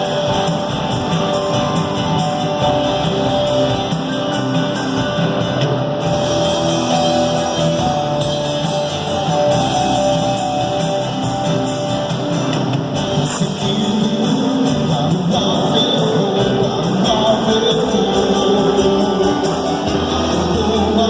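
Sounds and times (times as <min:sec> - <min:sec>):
drum kit: 0:00.0 - 0:21.0
guitar: 0:00.0 - 0:21.0
rock band playing: 0:00.0 - 0:21.0.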